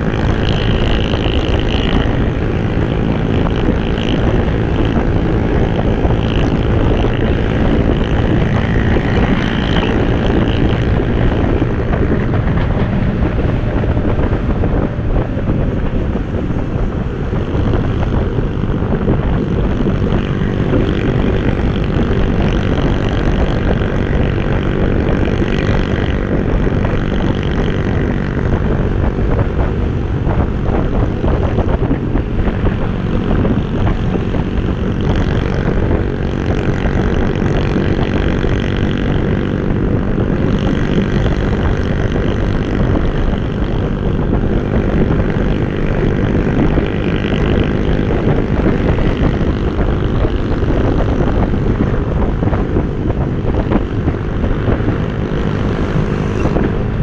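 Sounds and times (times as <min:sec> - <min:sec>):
motorbike engine cruising: 0:00.0 - 0:57.0.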